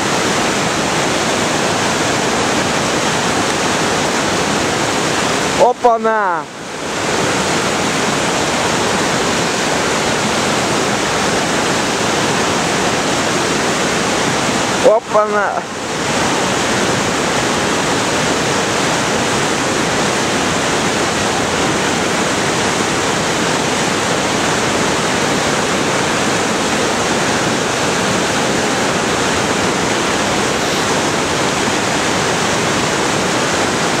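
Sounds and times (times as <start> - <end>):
whitewater rushing: 0.0 - 34.0.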